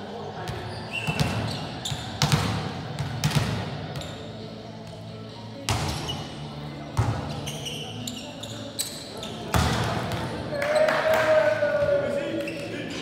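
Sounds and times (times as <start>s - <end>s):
volleyball thumping in a gym: 0.0s - 13.0s.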